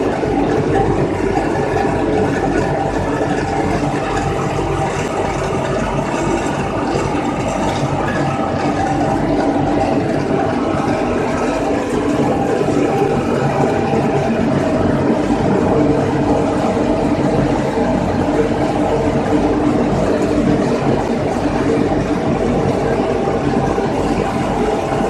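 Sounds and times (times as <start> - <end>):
pellet mill machinery humming: 0.0 - 25.0.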